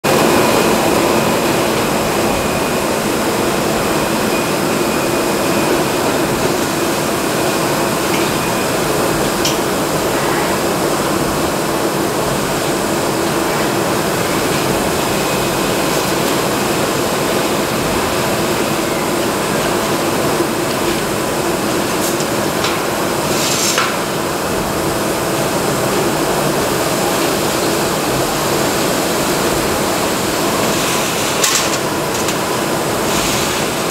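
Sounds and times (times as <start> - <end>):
machinery hum and hiss: 0.0 - 33.9.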